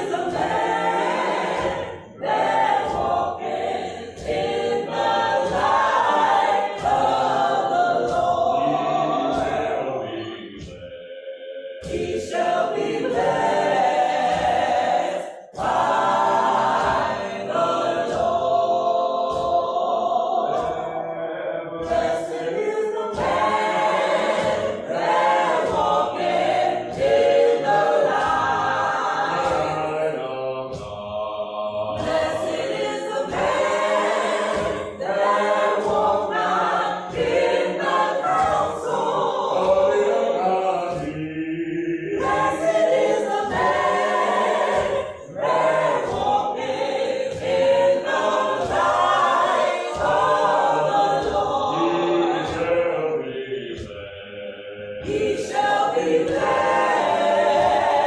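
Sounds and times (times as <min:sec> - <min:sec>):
gospel choir singing unaccompanied: 0:00.0 - 0:58.0.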